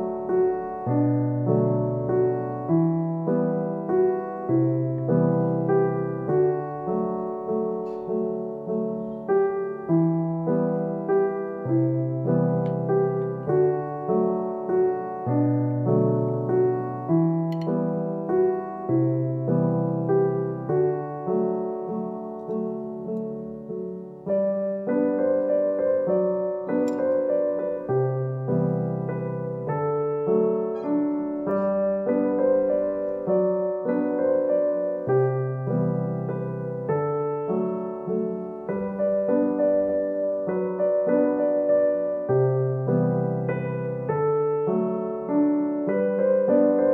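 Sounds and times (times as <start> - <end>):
piano playing: 0.0 - 46.9.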